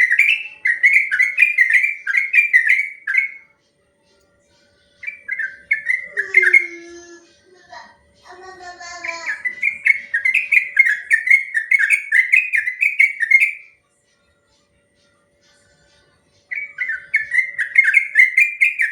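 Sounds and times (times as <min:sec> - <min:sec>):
bulbul singing: 0:00.0 - 0:18.9.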